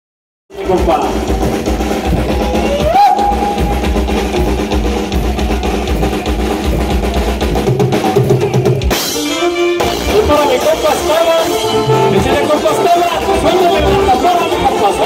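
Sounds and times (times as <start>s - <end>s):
music with drum beat and bass: 0.5s - 15.0s.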